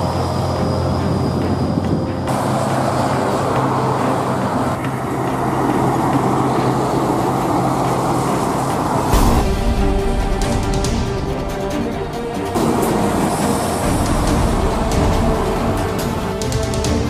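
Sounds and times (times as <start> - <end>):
buses driving past: 0.0 - 17.0.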